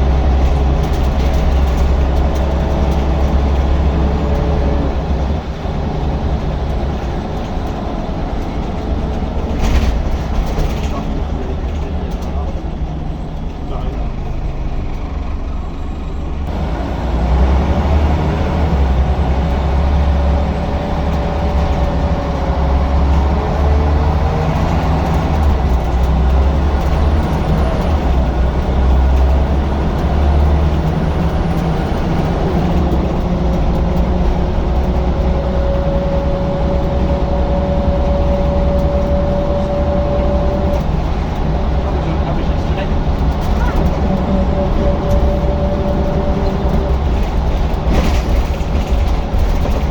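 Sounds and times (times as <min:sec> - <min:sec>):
bus diesel engine rumbling: 0:00.0 - 0:49.9.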